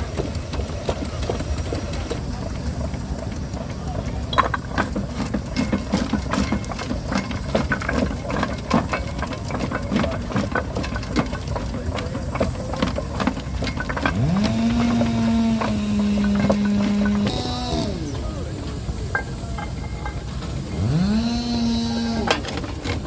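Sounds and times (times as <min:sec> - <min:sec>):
steam engines clanking and rattling: 0:00.0 - 0:23.0.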